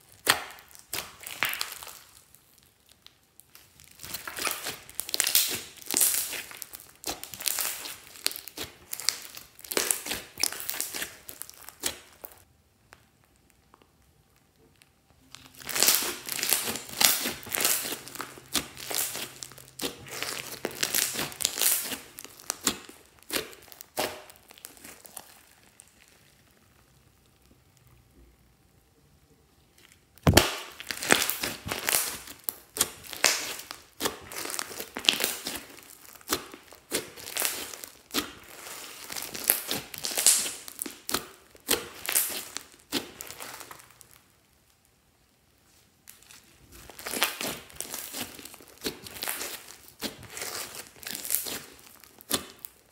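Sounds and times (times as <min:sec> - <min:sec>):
slime squelching and popping: 0:00.0 - 0:28.4, 0:29.6 - 0:52.9.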